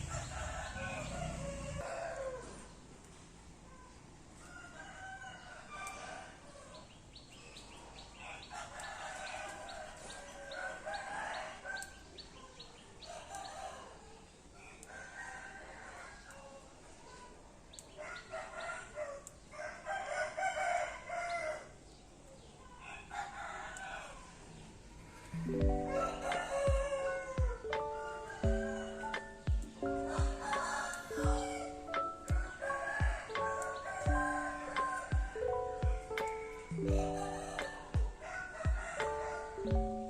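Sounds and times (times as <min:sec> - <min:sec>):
rooster crowing: 0:00.0 - 0:02.8, 0:04.4 - 0:06.8, 0:08.2 - 0:12.1, 0:13.1 - 0:16.7, 0:18.0 - 0:21.8, 0:22.8 - 0:40.0.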